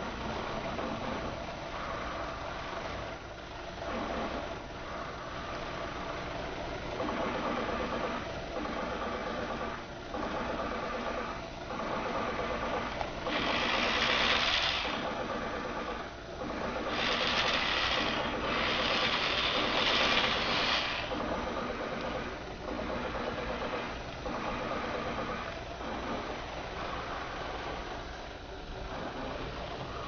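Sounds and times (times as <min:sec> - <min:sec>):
motor running steadily: 0:00.0 - 0:30.0.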